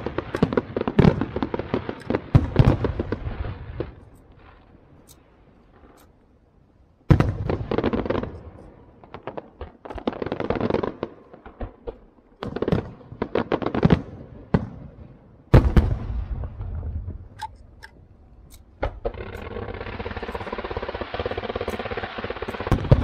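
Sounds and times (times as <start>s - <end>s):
firework bangs and crackles: 0.0s - 5.1s, 7.0s - 17.8s, 18.6s - 23.0s.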